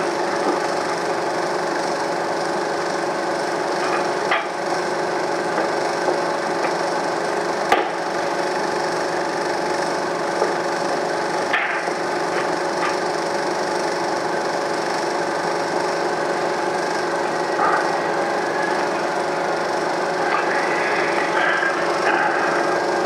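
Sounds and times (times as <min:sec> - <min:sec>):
film projector running: 0:00.0 - 0:23.0.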